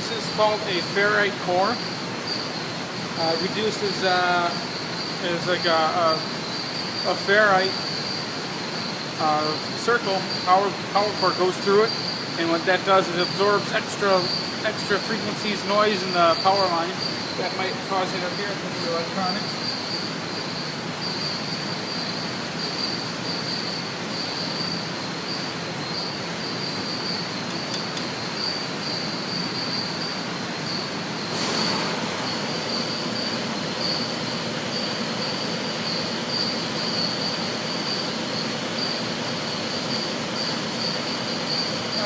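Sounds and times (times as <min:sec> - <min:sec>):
high-pitched whine: 0:00.0 - 0:42.0
steady hiss: 0:00.0 - 0:42.0.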